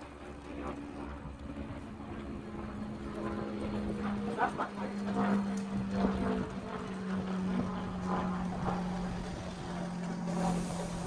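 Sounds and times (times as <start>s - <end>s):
steady engine hum: 0.0s - 11.0s.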